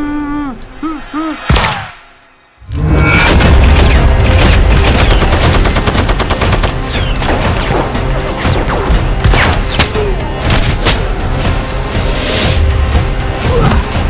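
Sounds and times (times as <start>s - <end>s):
film score music: 0.0s - 14.0s.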